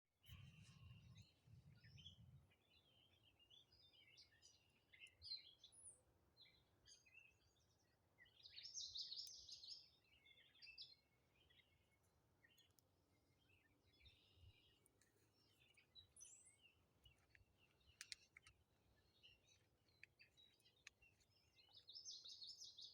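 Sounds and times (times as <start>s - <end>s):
songbirds singing and chirping: 0.2s - 22.9s.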